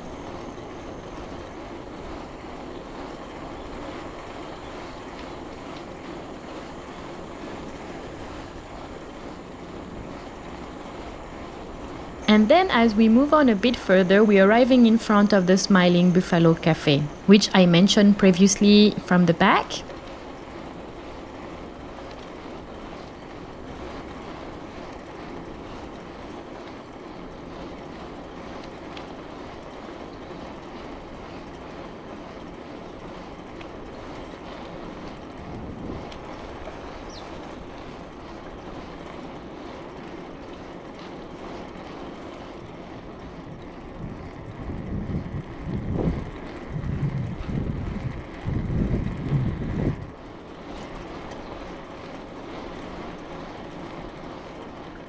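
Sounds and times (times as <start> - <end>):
bicycle rolling on road: 0.0 - 55.0
wind buffeting microphone: 0.0 - 55.0.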